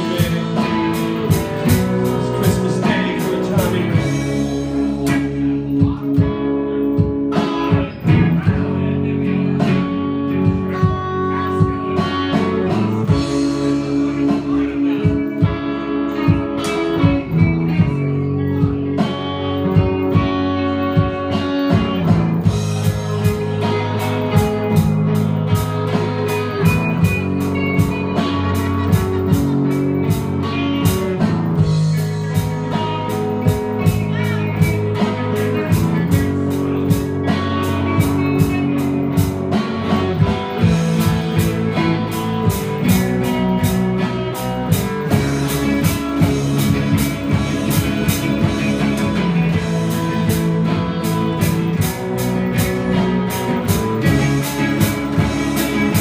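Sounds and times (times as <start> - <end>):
drum kit steady beat: 0.0 - 56.0
electric guitar playing blues: 0.0 - 56.0.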